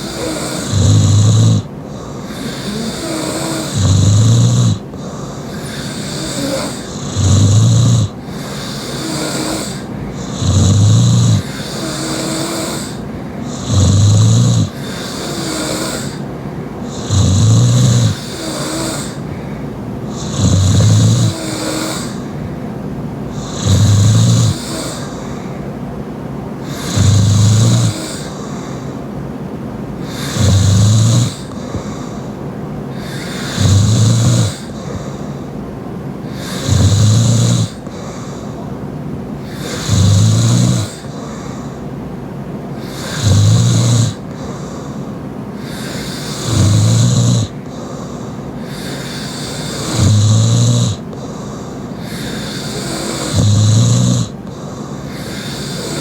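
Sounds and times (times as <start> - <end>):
woman snoring loudly: 0.0 - 19.5, 20.1 - 22.5, 23.3 - 25.6, 26.6 - 28.8, 30.0 - 32.2, 32.9 - 35.5, 36.2 - 38.4, 39.4 - 41.6, 42.8 - 44.9, 45.6 - 56.0.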